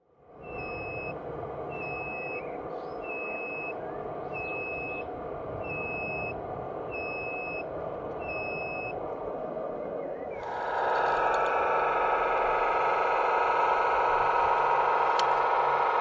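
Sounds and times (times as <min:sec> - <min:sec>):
engine rumble: 0:00.2 - 0:16.0
truck reversing alarm beeping: 0:00.4 - 0:09.0, 0:10.4 - 0:16.0.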